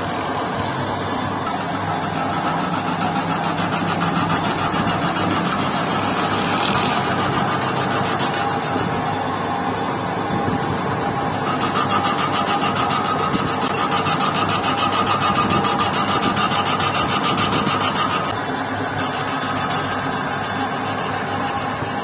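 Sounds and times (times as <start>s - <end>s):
high machining whine: 0.0s - 22.0s
metal lathe running: 0.0s - 22.0s.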